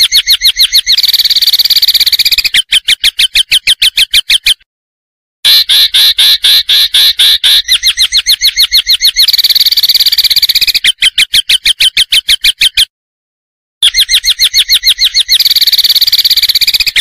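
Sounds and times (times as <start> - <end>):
sharp bird notes and trill: 0.0 - 4.6, 5.4 - 12.9, 13.8 - 17.0.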